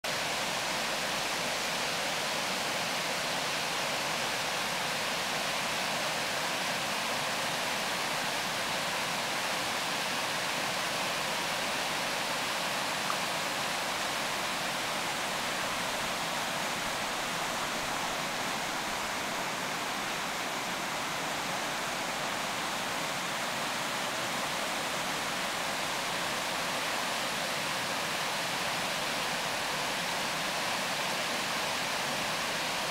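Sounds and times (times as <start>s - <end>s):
waterfall rushing over rocks: 0.1s - 32.9s.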